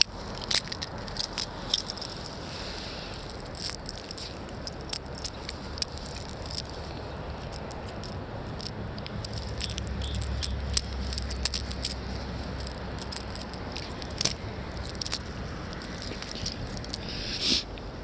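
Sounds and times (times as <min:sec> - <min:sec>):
sharp clicks and rattles: 0:00.0 - 0:02.4, 0:03.1 - 0:17.2.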